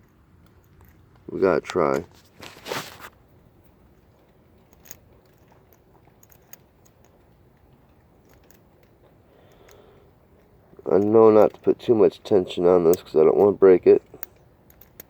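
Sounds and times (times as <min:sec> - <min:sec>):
faint metal clicks and scrapes: 0:00.0 - 0:15.0.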